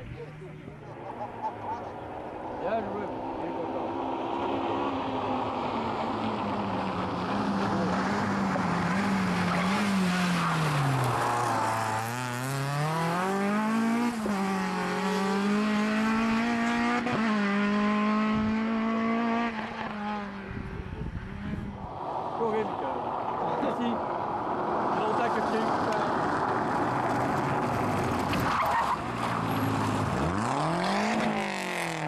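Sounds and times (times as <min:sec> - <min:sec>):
rally car engine: 0:00.0 - 0:32.0.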